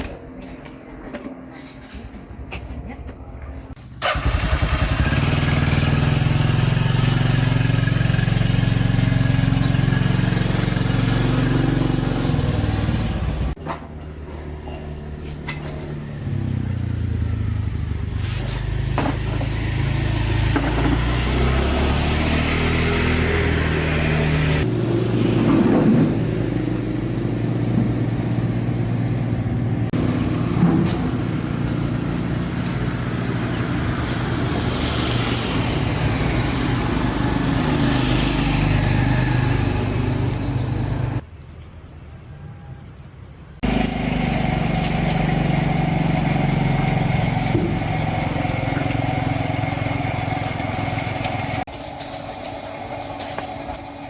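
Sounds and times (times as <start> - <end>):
vehicle engine running: 3.4 - 41.2, 43.6 - 54.0.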